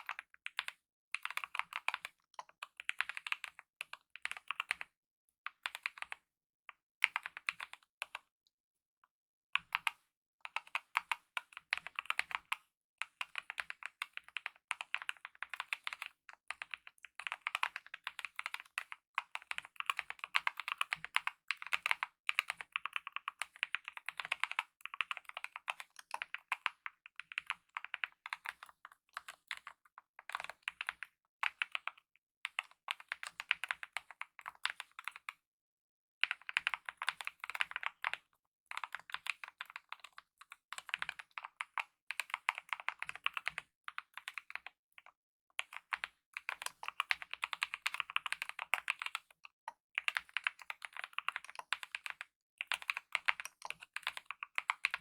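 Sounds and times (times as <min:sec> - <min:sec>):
mechanical keyboard typing: 0:00.0 - 0:04.9, 0:10.6 - 0:35.2, 0:36.2 - 0:44.8, 0:45.6 - 0:55.0.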